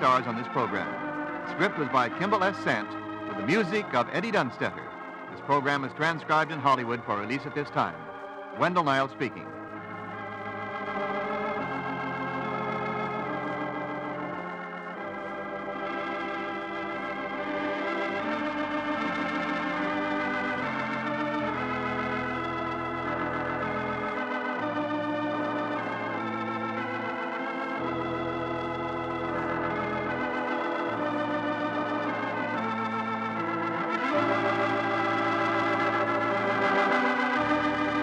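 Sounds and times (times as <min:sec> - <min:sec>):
organ chords with tremolo: 0:00.0 - 0:38.0.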